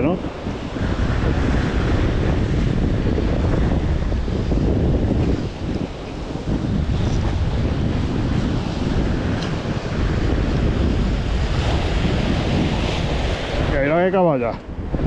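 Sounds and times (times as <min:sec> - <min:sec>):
sea washing: 0:00.0 - 0:15.0
wind buffeting microphone: 0:00.0 - 0:15.0.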